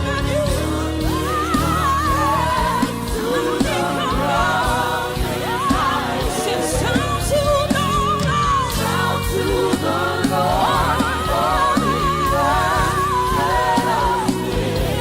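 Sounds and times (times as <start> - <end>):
backing voices singing: 0.0 - 15.0
band with bass and drums: 0.0 - 15.0
lead singer with vibrato: 0.0 - 15.0.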